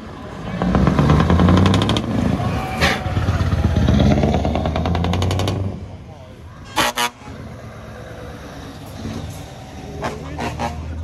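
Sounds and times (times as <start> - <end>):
truck engine pulling away: 0.0 - 6.2, 6.9 - 11.0.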